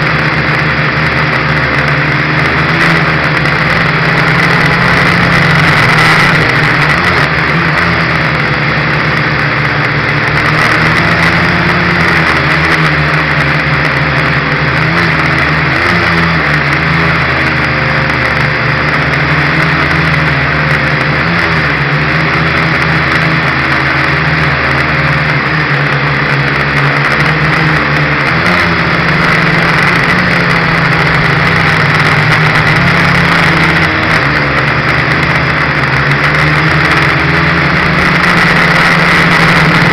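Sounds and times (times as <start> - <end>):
quadcopter motors buzzing: 0.0 - 39.9.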